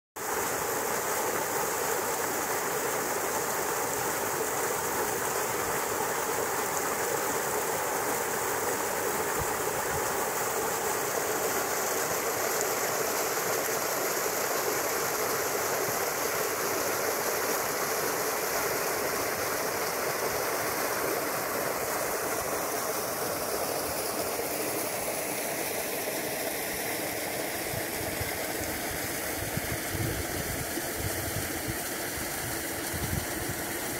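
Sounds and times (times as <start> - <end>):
water gushing into a creek: 0.2 - 33.9.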